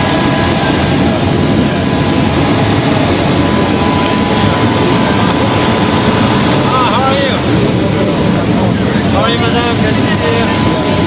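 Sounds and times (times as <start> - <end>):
high-pitched whine: 0.0 - 11.0
jet turbines rumbling: 0.0 - 11.0.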